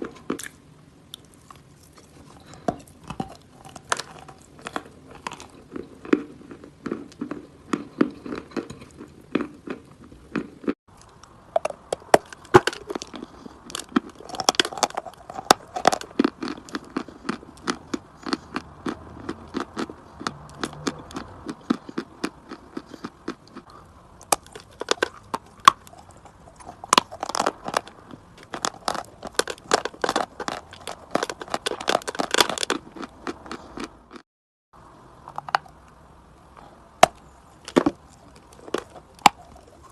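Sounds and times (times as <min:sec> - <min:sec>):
chalk crunching while chewed: 0:00.0 - 0:34.2, 0:36.6 - 0:39.9.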